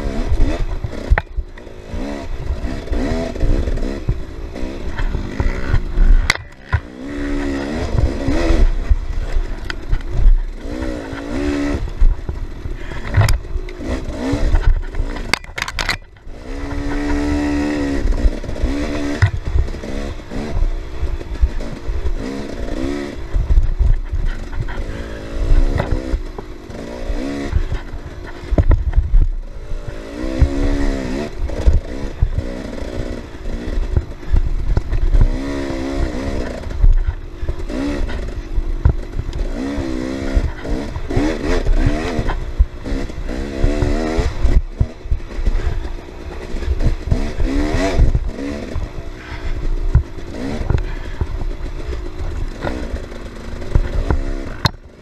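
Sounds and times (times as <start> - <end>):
bike knocking and rattling: 0.0 - 55.0
dirt bike engine revving: 0.0 - 55.0.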